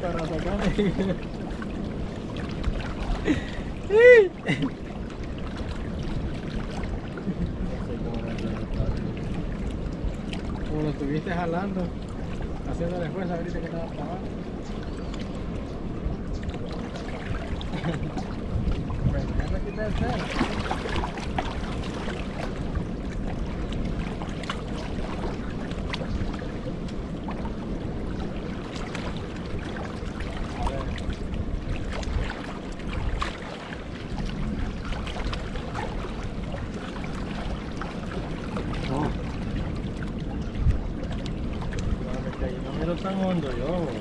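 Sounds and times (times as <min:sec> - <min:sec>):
waves washing over boulders: 0:00.0 - 0:14.6, 0:15.2 - 0:44.0.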